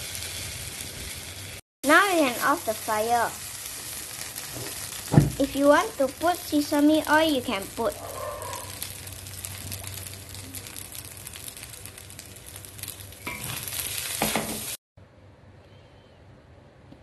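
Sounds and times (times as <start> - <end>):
rice sizzling in a wok: 0.0 - 14.8.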